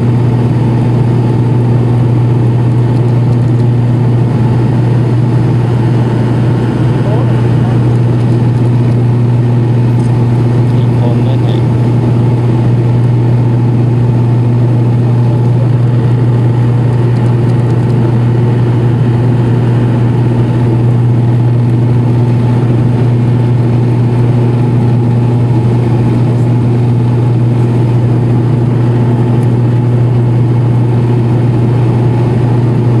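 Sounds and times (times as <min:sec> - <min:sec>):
airliner engines droning: 0:00.0 - 0:33.0.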